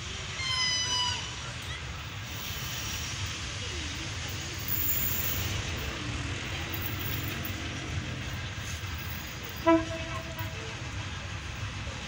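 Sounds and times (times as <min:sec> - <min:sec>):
distant locomotive rumble: 0:00.0 - 0:12.0.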